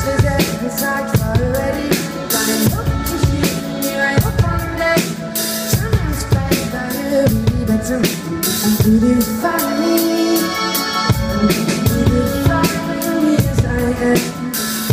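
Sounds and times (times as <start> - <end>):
drum kit: 0.0 - 14.9
woman singing: 0.0 - 14.9.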